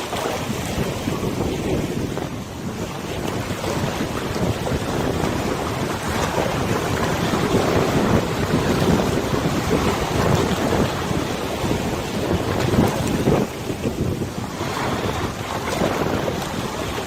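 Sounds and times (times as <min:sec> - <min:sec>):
river water washing: 0:00.0 - 0:17.0
wind gusting on microphone: 0:00.0 - 0:17.0.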